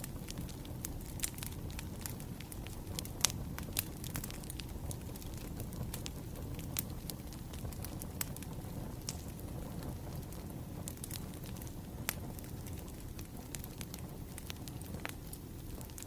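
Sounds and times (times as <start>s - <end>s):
crackles and pops of burning wood: 0.0s - 16.0s
low rumble of flames: 0.0s - 16.0s.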